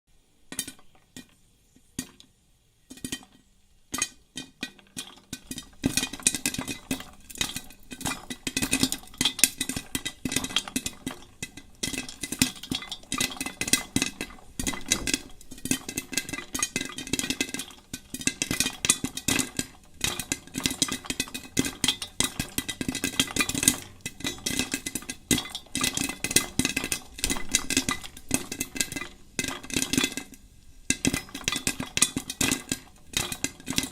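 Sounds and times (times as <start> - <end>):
popcorn popping: 0.1 - 33.9.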